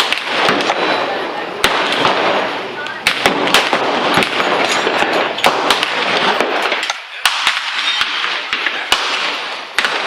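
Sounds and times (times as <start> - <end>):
gunshots: 0.0 - 10.0.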